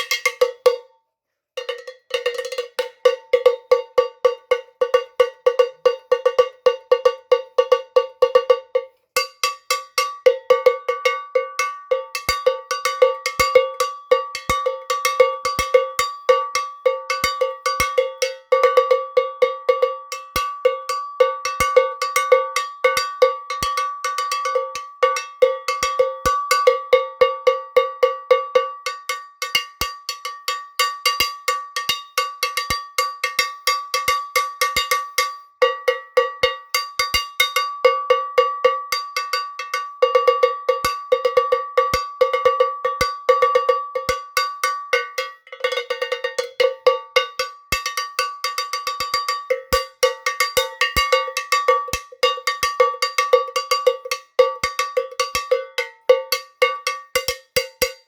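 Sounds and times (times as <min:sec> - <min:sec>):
cowbell struck by hand: 0:00.0 - 0:01.0, 0:01.6 - 0:58.0.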